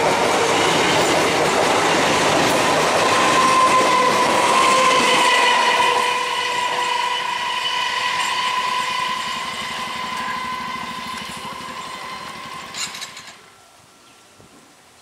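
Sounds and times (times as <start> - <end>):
train wheel noise and clatter: 0.0 - 13.4
electric train whine: 0.0 - 13.6.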